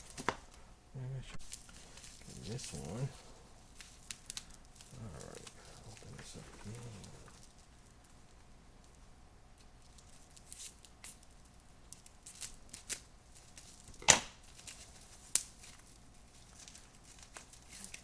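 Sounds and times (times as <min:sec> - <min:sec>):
packaging rustling: 0:01.4 - 0:08.0, 0:09.8 - 0:18.0.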